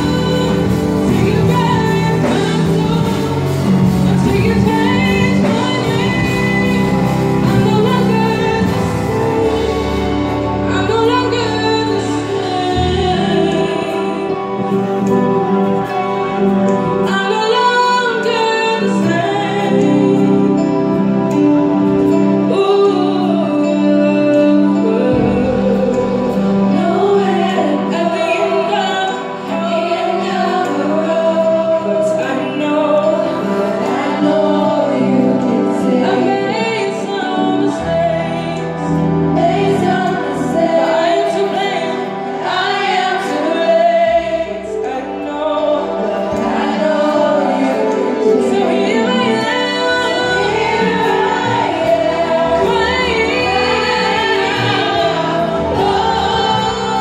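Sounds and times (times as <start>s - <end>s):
sustained chords: 0.0s - 57.0s
vocal group singing gospel: 0.0s - 57.0s.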